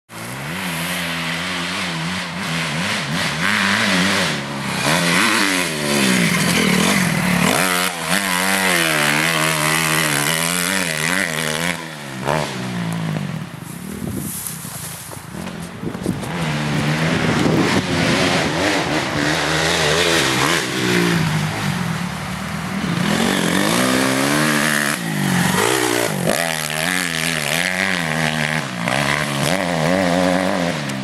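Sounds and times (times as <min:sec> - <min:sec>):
motocross bike engine revving: 0:00.1 - 0:13.6, 0:16.1 - 0:31.0.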